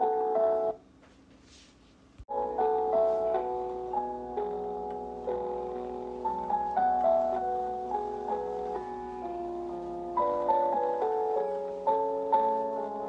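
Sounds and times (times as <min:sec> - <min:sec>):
slow keyboard melody with chords: 0:00.0 - 0:00.8, 0:02.3 - 0:13.0.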